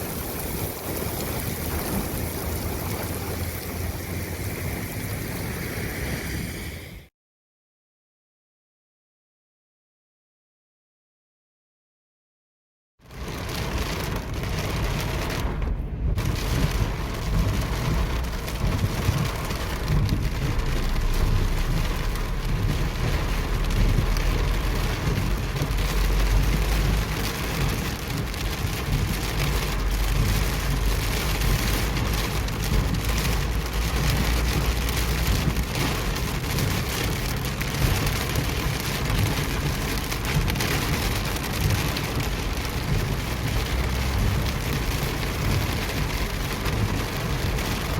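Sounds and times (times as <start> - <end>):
heavy rain pattering: 0.0 - 6.7, 13.1 - 47.9.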